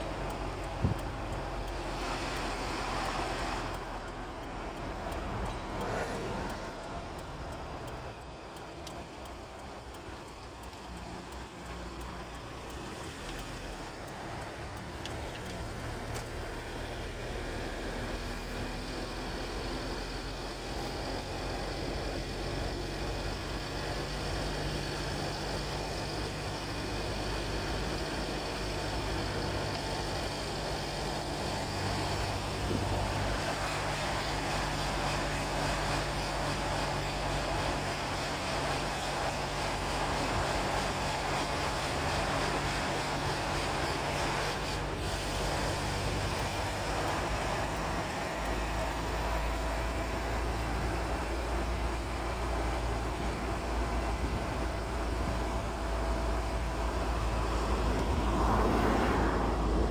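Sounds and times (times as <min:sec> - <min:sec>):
car engine and tyre hum: 0:00.0 - 0:59.9.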